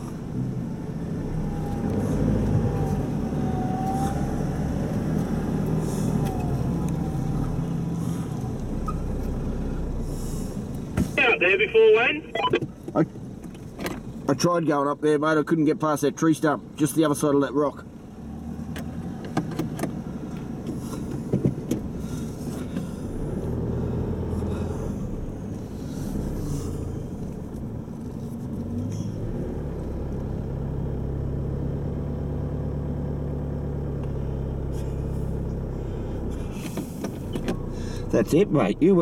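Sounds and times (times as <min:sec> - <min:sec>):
vehicle engine at low revs: 0:00.0 - 0:39.0.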